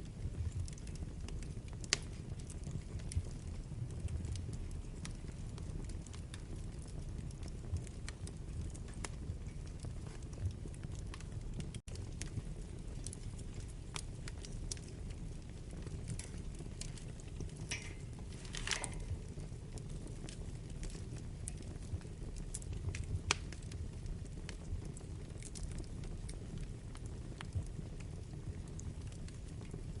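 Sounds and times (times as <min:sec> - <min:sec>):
fire crackling and popping: 0:00.0 - 0:30.0
low rumble of fire flames: 0:00.0 - 0:30.0.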